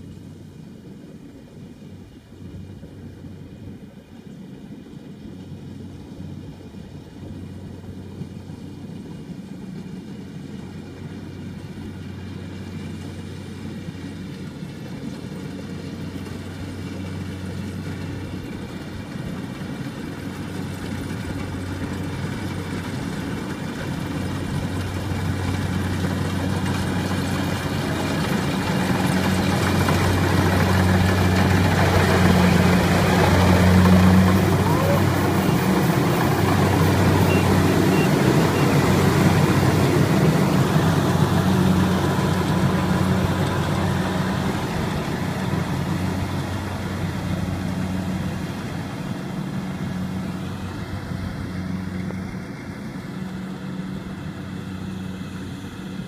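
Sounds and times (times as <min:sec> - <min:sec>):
harvester engine droning: 0:05.0 - 0:56.0.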